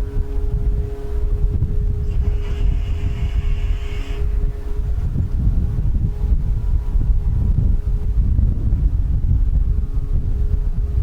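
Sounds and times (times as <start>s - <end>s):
steady mechanical hum: 0.0s - 11.0s
wind buffeting microphone: 0.0s - 11.0s.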